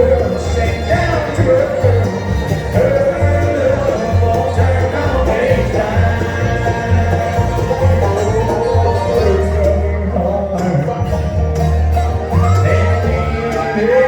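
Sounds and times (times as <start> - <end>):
banjo picking: 0.0 - 14.0
bass notes: 0.0 - 14.0
bluegrass band playing: 0.0 - 14.0.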